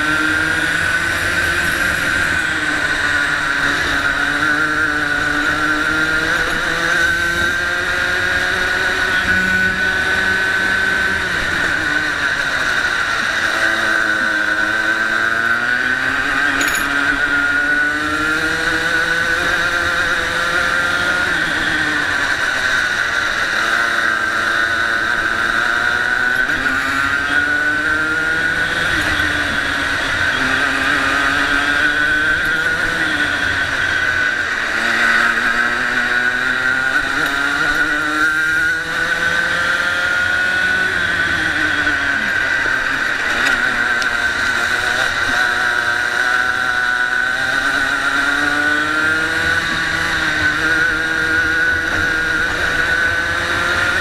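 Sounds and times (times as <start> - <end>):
racing kart engine revving: 0.0 - 54.0.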